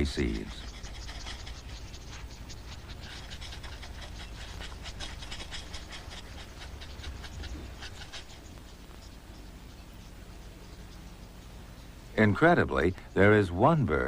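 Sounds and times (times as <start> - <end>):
birds scratching dry ground: 0.0 - 14.0.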